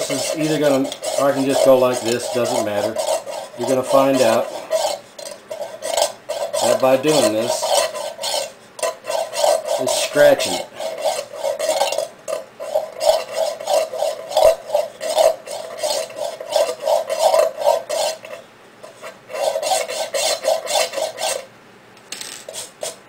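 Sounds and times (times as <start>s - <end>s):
nail scratching tin can: 0.0s - 21.5s, 22.1s - 23.0s.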